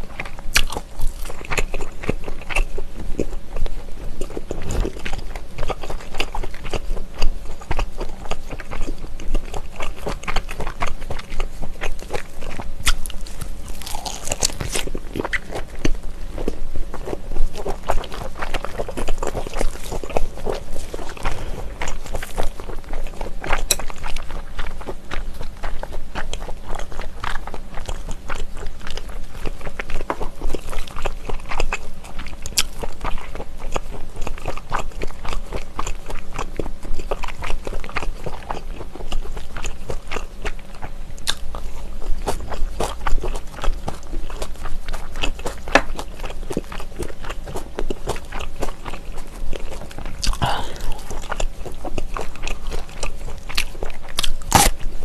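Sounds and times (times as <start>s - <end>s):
close chewing with wet crunches: 0.0s - 55.0s.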